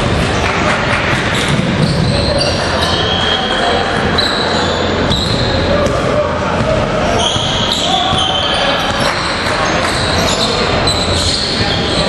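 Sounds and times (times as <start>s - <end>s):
court noise: 0.0s - 12.0s
players' voices: 0.2s - 12.0s
sneakers squeaking on court: 1.2s - 6.0s, 6.6s - 12.0s.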